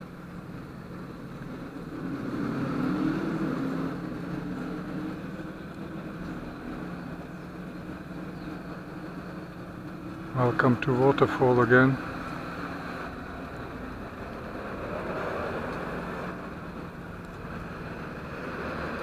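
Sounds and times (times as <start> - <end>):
vehicle engine hum: 0.0 - 19.0.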